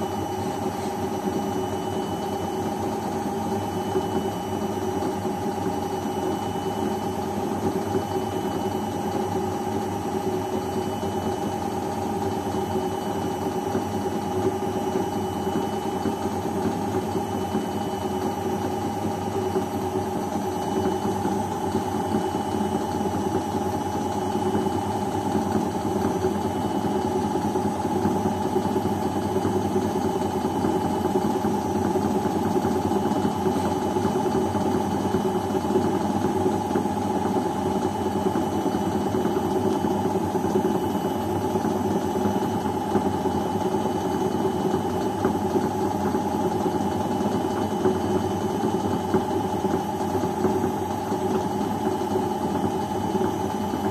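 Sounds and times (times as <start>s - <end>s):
washing machine spinning: 0.0s - 53.9s.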